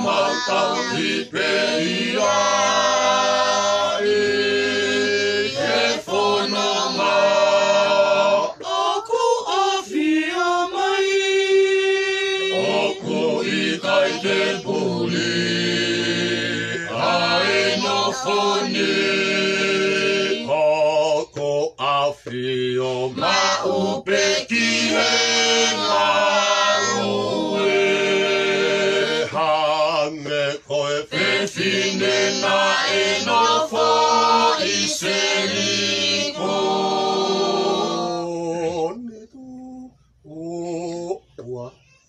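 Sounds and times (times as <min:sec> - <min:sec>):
group singing without instruments: 0:00.0 - 0:41.8.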